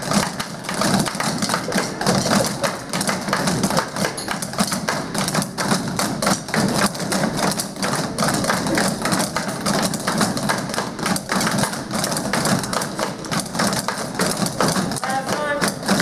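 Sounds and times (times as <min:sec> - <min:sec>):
children drumming with sticks: 0:00.0 - 0:16.0.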